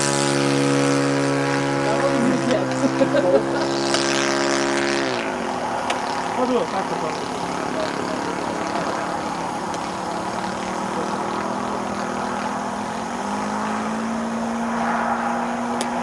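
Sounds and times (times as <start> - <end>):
model airplane engine: 0.0 - 16.0.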